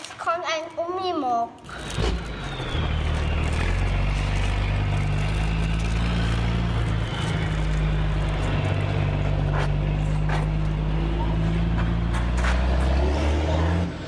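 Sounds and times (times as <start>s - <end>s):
electronic truck engine hum: 1.6s - 14.0s.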